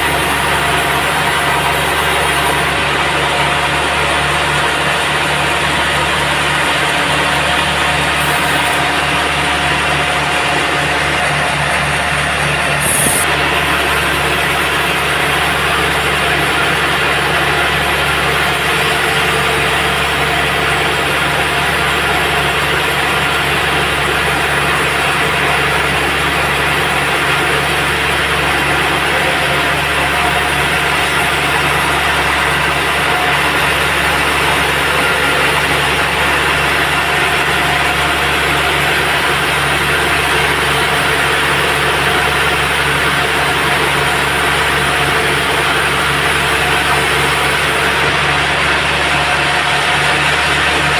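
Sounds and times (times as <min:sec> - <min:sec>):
band sawmill drone: 0:00.0 - 0:50.9.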